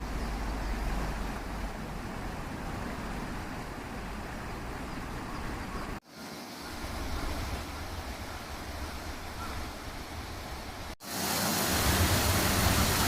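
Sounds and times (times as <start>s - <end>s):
river rushing over its bed: 0.0s - 13.0s.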